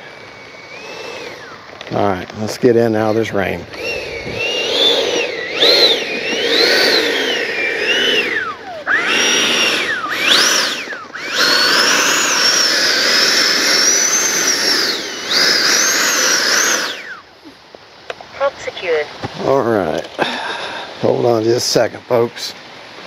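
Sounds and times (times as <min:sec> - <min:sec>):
electric ducted fan whine: 0:00.0 - 0:23.0.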